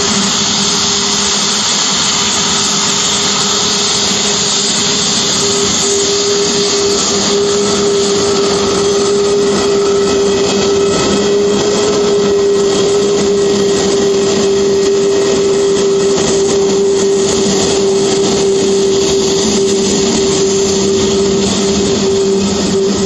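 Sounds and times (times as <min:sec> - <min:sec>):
jet engines at taxi power: 0:00.0 - 0:23.0.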